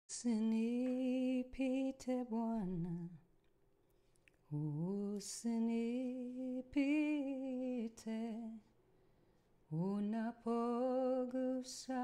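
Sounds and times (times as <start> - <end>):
woman singing unaccompanied: 0.1 - 3.3, 4.5 - 8.7, 9.7 - 12.0.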